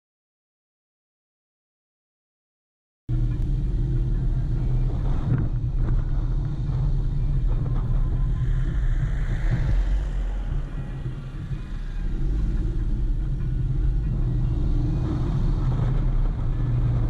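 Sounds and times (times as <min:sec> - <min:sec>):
motorcycle engine rumble: 0:03.1 - 0:17.0
road and wind noise: 0:03.1 - 0:17.0.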